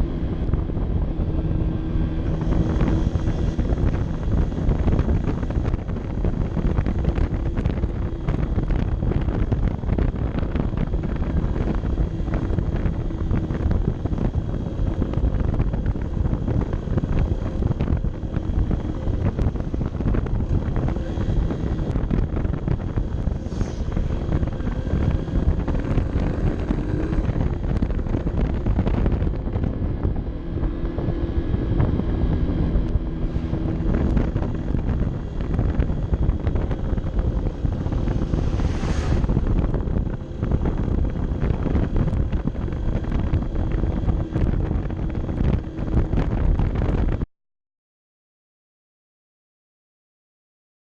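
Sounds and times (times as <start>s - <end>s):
motorcycle engine running: 0.0s - 47.2s
wind rumble on microphone: 0.0s - 47.3s.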